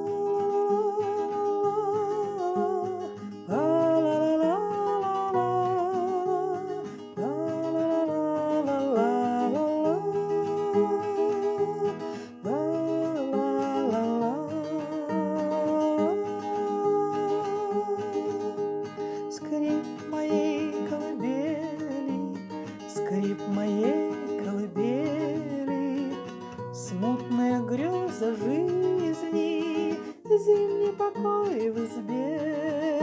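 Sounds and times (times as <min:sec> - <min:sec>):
acoustic guitar: 0:00.0 - 0:33.0.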